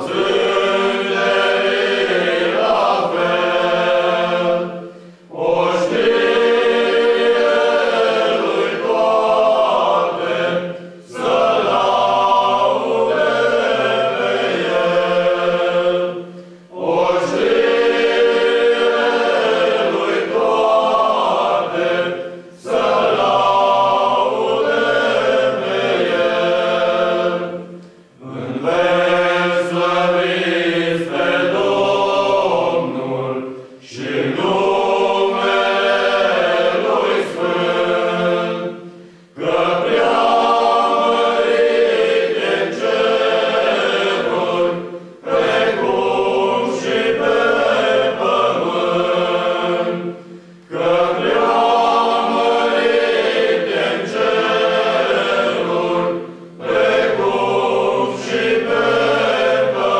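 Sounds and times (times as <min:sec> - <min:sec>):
men's choir singing unaccompanied: 0:00.0 - 0:59.9.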